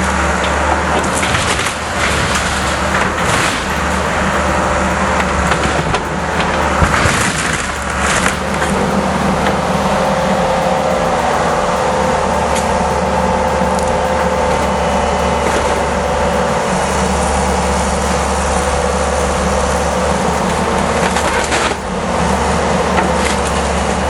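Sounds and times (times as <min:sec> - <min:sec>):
excavator diesel engine running: 0:01.7 - 0:24.0.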